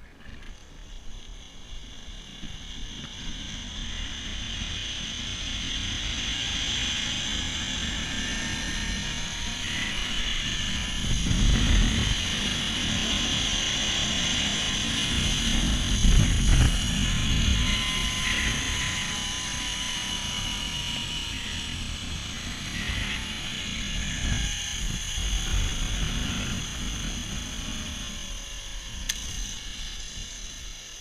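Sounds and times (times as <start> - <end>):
zipline pulleys whirring: 0.0 - 31.0
wind buffeting microphone: 4.2 - 30.8.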